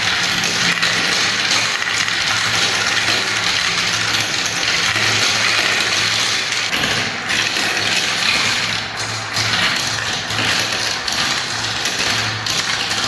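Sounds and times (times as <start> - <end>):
balls rattling down marble run: 0.0 - 13.0.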